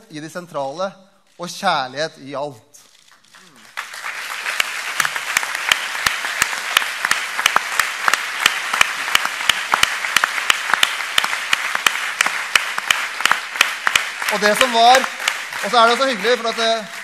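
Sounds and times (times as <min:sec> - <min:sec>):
audience applauding rhythmically: 0:02.9 - 0:17.0.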